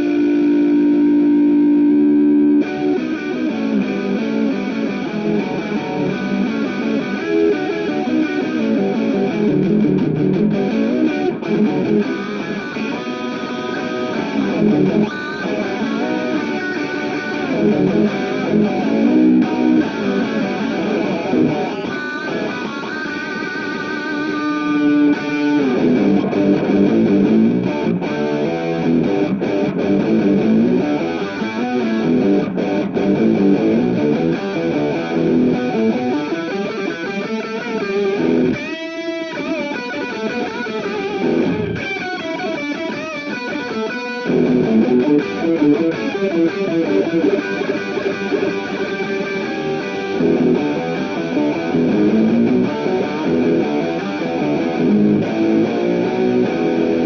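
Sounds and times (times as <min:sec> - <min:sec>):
electric guitar with pitch effect: 0:00.0 - 0:57.0
swooping guitar pitch glides: 0:00.0 - 0:57.0.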